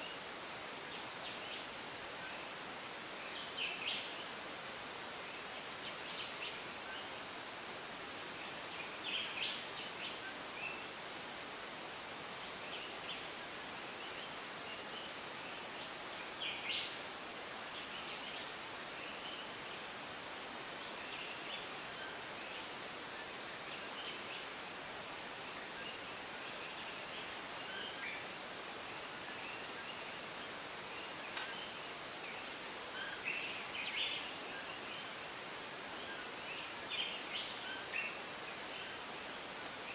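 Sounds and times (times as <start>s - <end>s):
steady rainforest hiss: 0.0s - 39.9s.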